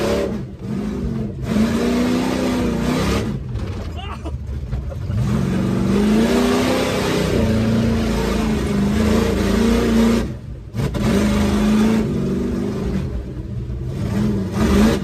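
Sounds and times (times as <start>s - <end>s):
truck engine under throttle: 0.0s - 15.0s.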